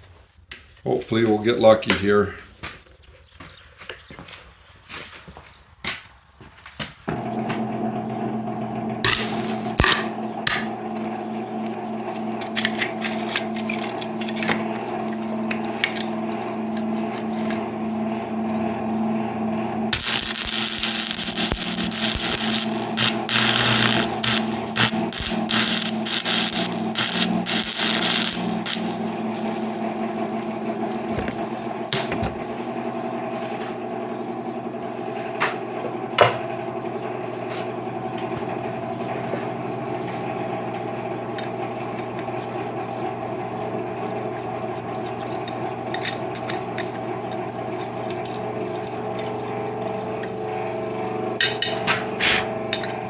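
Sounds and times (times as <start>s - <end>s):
steady machine hum: 7.2s - 53.0s.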